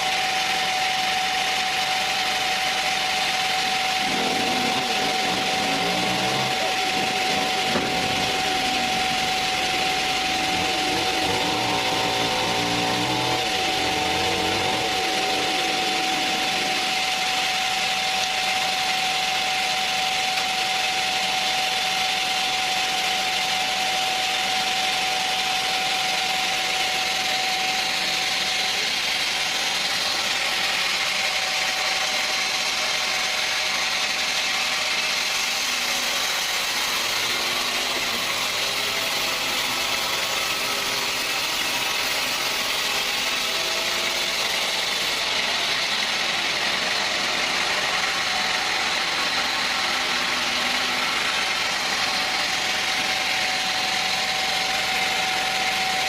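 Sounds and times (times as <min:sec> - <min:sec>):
sawmill machinery running: 0:00.0 - 0:56.0
steady whining tone: 0:00.0 - 0:56.0.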